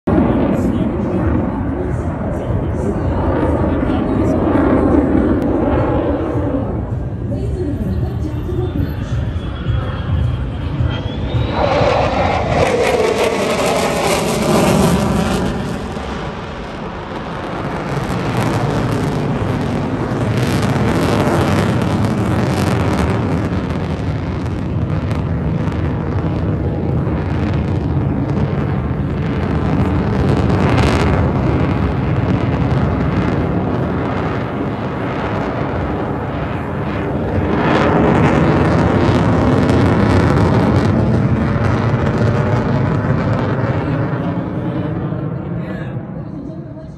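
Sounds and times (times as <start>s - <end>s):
jet engine roar: 0.0s - 46.9s.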